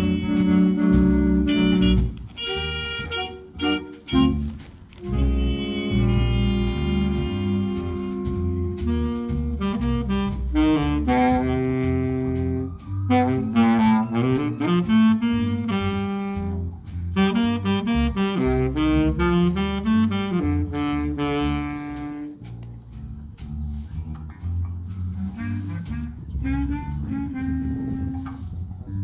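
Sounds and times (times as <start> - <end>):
saxophone section melody: 0.0 - 22.6, 25.1 - 28.6
big band playing jazz: 0.0 - 29.0.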